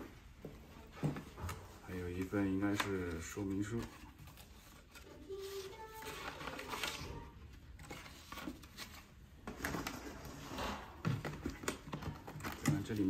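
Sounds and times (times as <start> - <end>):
cardboard packaging rustling: 0.7 - 13.0.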